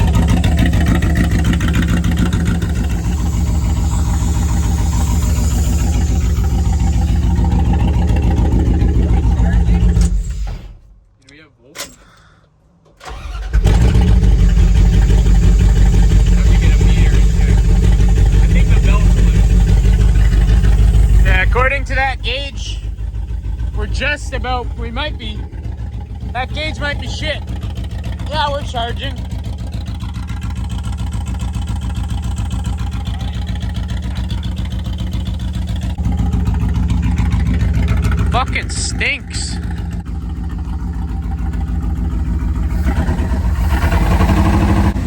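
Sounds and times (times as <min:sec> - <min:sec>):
truck engine starting and running: 0:00.0 - 0:45.0.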